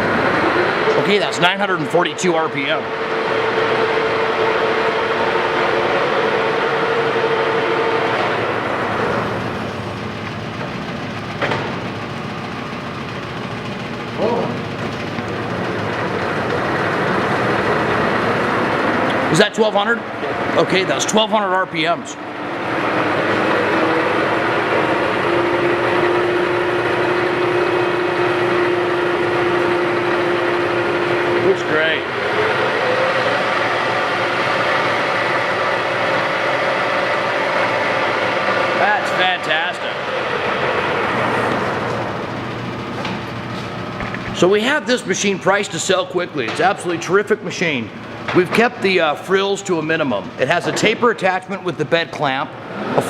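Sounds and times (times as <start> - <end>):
steady machine tone: 0.0 - 52.8
lathe running: 0.0 - 53.0
lathe whine: 0.0 - 53.0.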